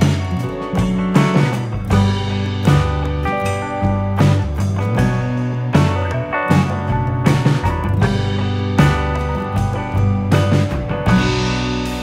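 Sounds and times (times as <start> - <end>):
music with guitar and drums: 0.0 - 12.0.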